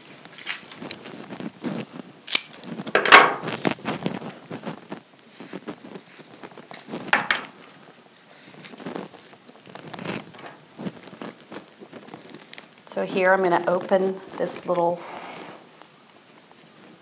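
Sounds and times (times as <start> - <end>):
scraping rustle: 0.0 - 17.0.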